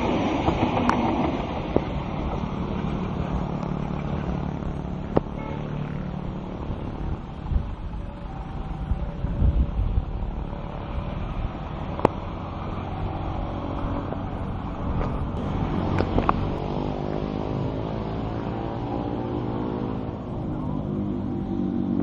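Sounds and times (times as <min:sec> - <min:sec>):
diesel train rumbling: 0:00.0 - 0:22.0.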